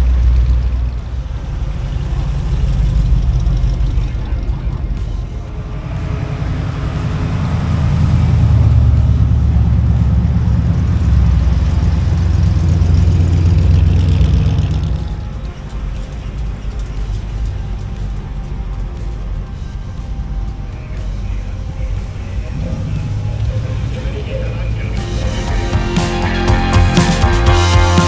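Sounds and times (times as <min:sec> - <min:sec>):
car engine rumbling deep and low: 0:00.0 - 0:28.0.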